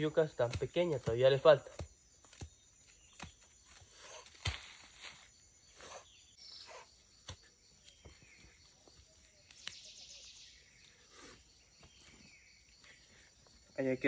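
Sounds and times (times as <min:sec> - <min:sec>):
insects: 0:00.0 - 0:14.0.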